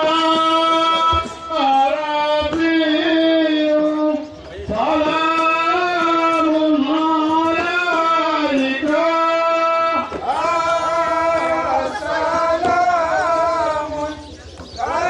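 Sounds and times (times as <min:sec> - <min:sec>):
men singing a chant: 0:00.0 - 0:15.0.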